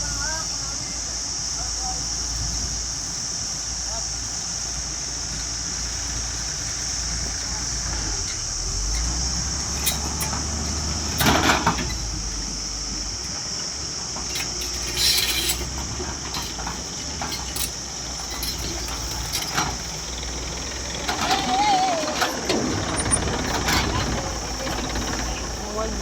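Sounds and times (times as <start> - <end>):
high hiss: 0.0 - 26.0
tractor engine rumble: 0.0 - 26.0.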